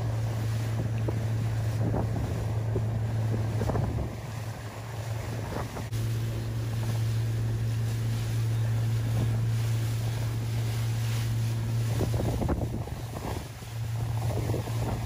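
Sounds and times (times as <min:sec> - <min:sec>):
boat engine drone: 0:00.0 - 0:15.0
choppy water wash: 0:00.0 - 0:15.0
wind buffeting microphone: 0:00.0 - 0:15.0.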